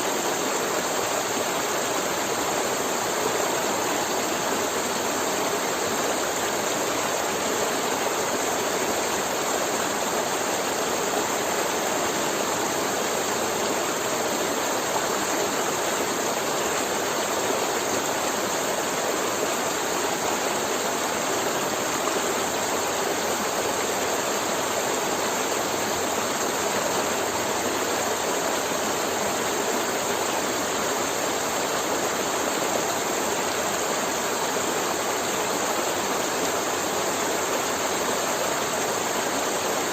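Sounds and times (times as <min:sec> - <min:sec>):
river water gurgling over rocks: 0:00.0 - 0:39.9.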